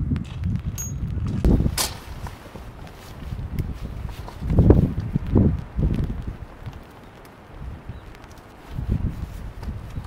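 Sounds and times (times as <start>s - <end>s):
wind buffeting microphone: 0.0s - 10.0s
rope rustling and ticking: 0.2s - 10.0s.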